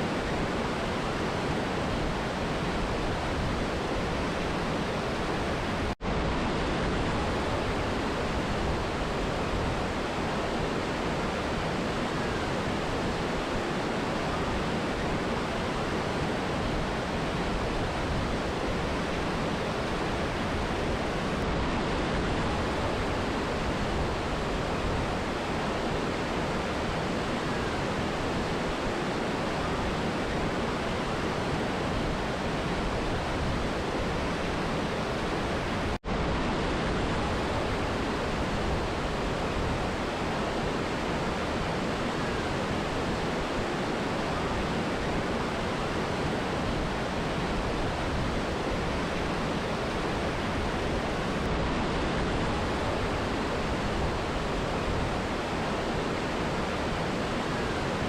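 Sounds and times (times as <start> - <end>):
river and waterfall roaring: 0.0 - 58.0.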